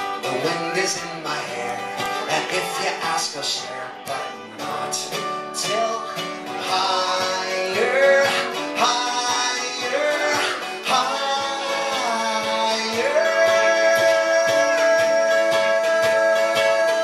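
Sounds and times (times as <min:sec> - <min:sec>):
acoustic guitars strummed and picked: 0:00.0 - 0:17.0
man singing: 0:00.0 - 0:17.0.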